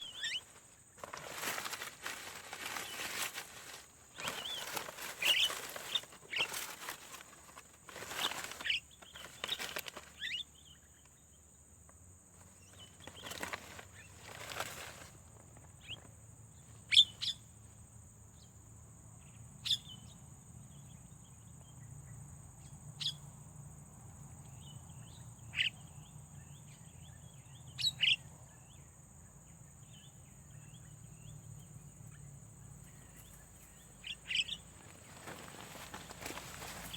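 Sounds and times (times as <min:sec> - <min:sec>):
birds chirping: 0:00.0 - 0:00.6, 0:01.7 - 0:11.5, 0:12.4 - 0:18.6, 0:19.2 - 0:23.4, 0:24.4 - 0:36.9.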